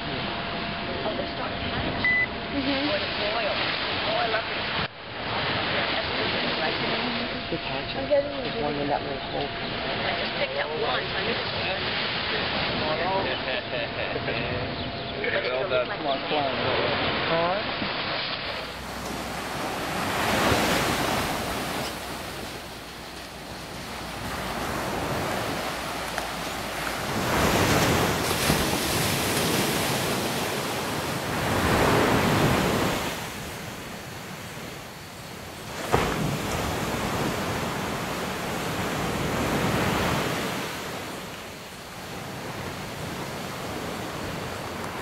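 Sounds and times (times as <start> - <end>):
surf breaking on beach: 2.6 - 7.4, 9.6 - 13.6, 16.4 - 45.0.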